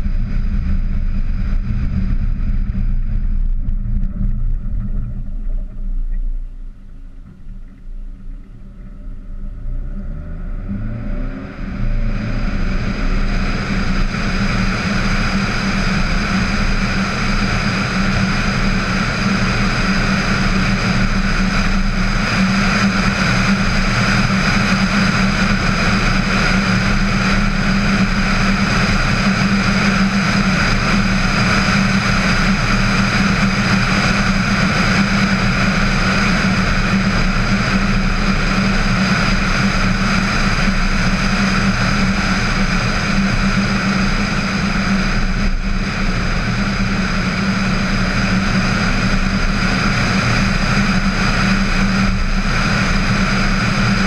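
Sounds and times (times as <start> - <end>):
car driving at road speed: 0.0 - 54.0.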